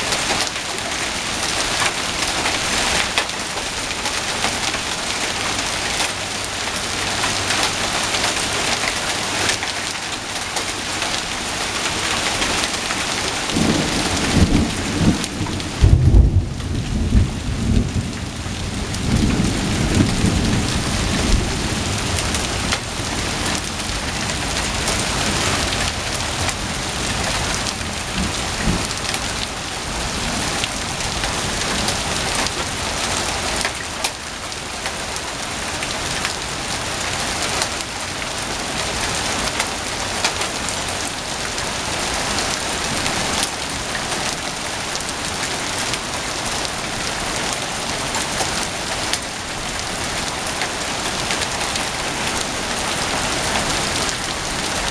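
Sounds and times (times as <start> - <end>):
hail and rain pelting ground: 0.0 - 54.9.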